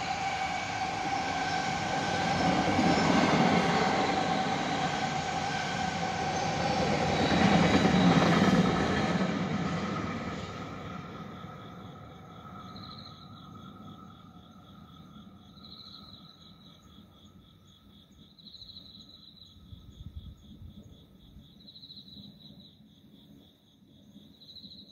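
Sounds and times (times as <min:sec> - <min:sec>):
crickets chirping: 0:00.0 - 0:24.9
high insect trill: 0:00.0 - 0:24.9.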